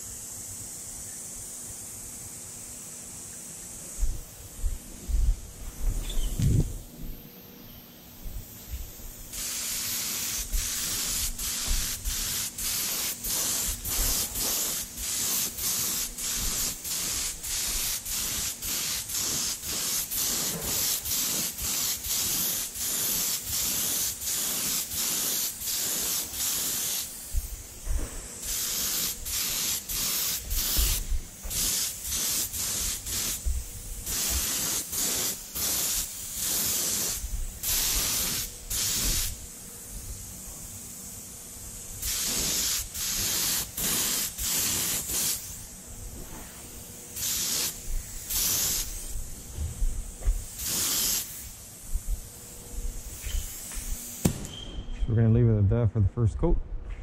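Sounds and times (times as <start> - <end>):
paint spray gun hissing in bursts: 0.0 - 54.6.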